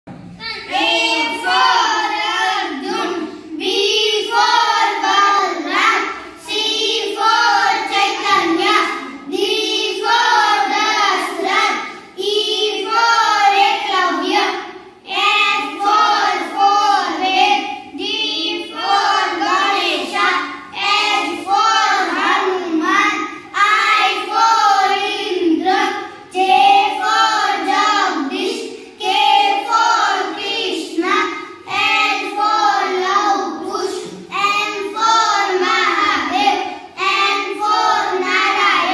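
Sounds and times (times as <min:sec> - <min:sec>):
children chanting alphabet rhyme: 0:00.1 - 0:38.9.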